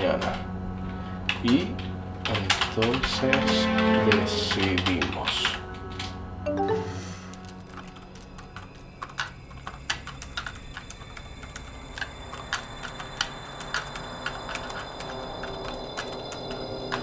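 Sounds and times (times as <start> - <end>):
laptop keyboard typing: 1.3 - 17.0.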